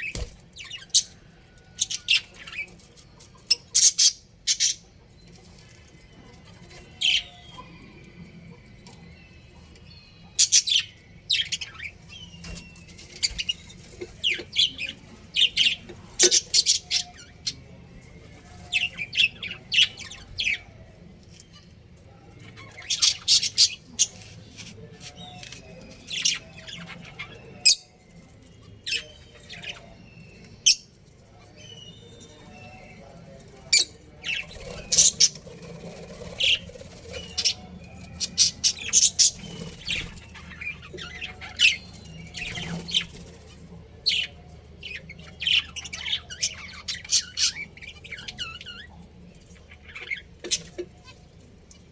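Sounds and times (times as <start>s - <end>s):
budgerigars chirping and squawking: 0.0s - 51.9s.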